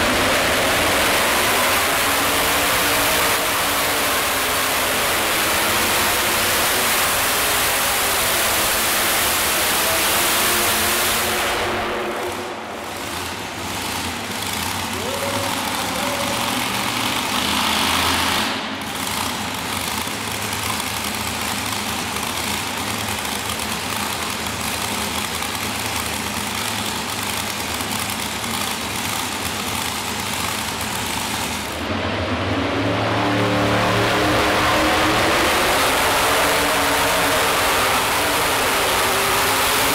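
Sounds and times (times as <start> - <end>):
second tractor engine: 0.0 - 39.9
tractor engine idling: 0.0 - 39.9.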